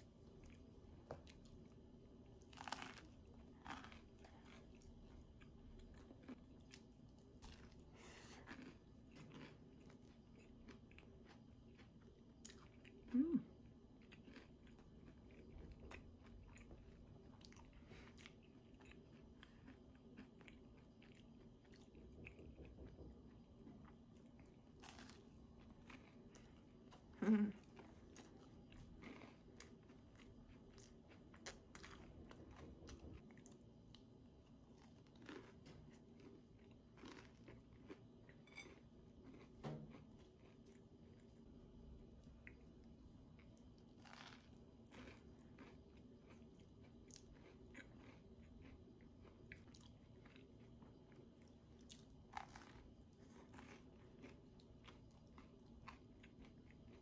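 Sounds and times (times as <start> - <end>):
person chewing toast crunches: 0.1 - 41.5, 42.2 - 57.0.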